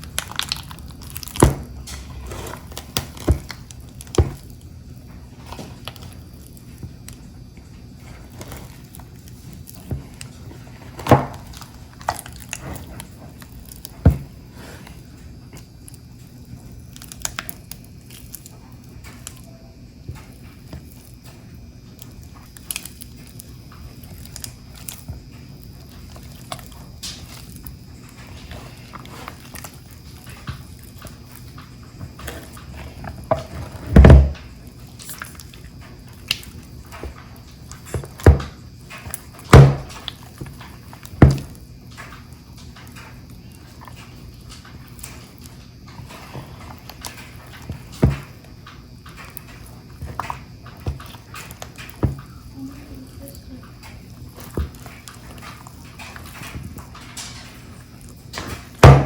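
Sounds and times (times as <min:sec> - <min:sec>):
utensil mixing sticky food: 0:00.0 - 0:59.0.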